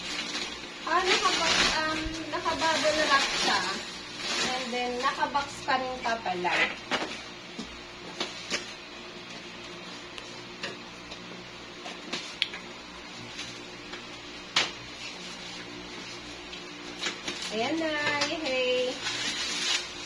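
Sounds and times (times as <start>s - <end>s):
bubble wrap crinkling: 0.0s - 7.3s, 7.9s - 10.2s, 11.9s - 20.0s.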